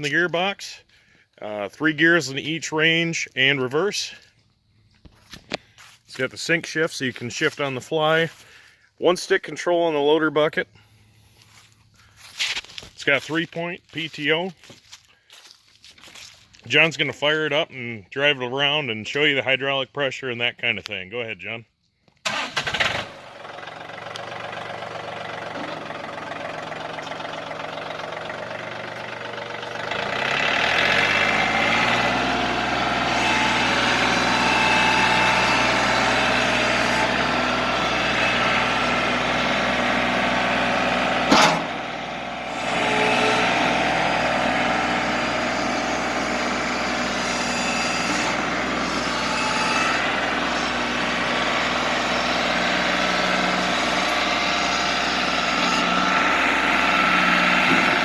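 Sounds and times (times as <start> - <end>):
tractor diesel engine starting: 0.0 - 14.4, 22.1 - 58.0.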